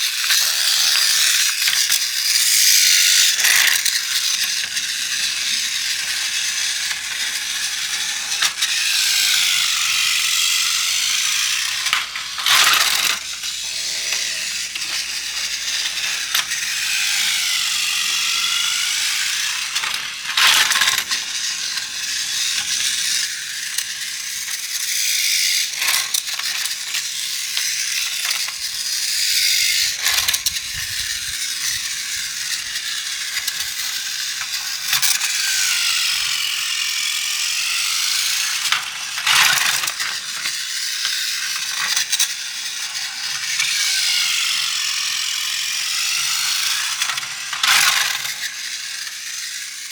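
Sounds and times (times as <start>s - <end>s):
toy train motor rattle: 0.0s - 49.9s.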